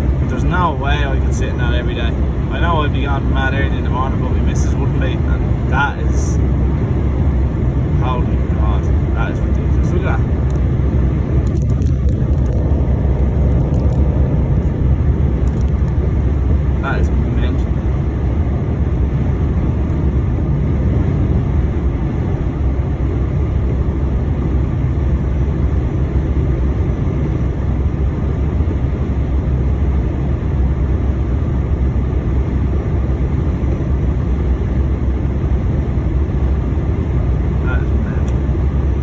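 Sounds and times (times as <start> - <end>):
lorry engine drone: 0.0 - 39.0
road noise: 0.0 - 39.0.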